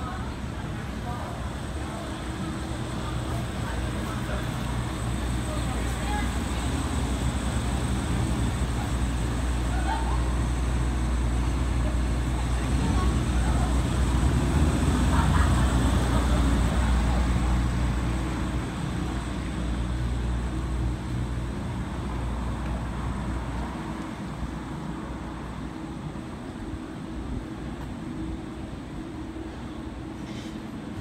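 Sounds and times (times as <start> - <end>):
traffic engines rumbling: 0.0 - 31.0.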